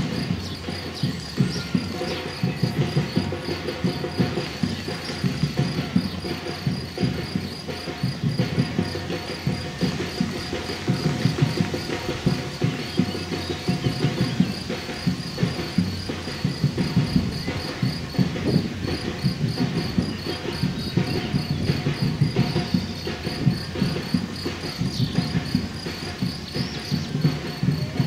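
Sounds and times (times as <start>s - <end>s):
runners' footsteps on pavement: 0.0s - 28.0s.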